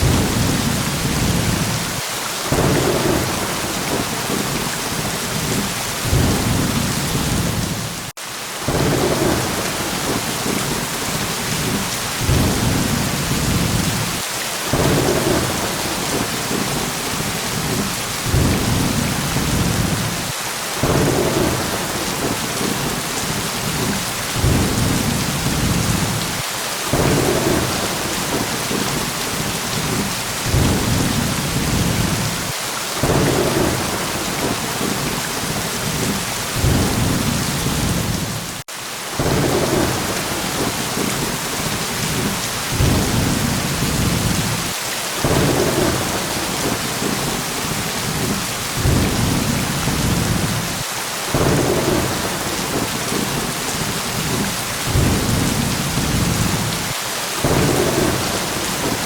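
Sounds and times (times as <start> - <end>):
low thunder rumbles: 0.0 - 8.1, 8.7 - 38.6, 39.2 - 59.0
heavy rain hiss: 0.0 - 59.0.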